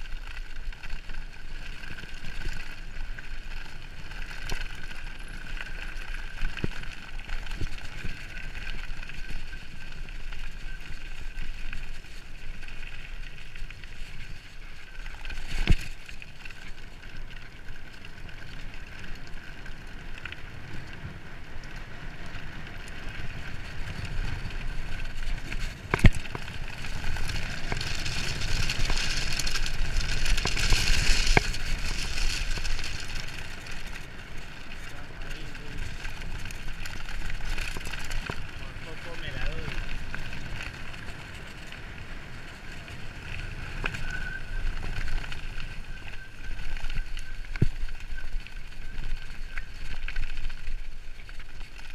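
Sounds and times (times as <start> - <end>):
bike rattling: 0.0 - 51.9
bike tyres on gravel: 0.0 - 51.9.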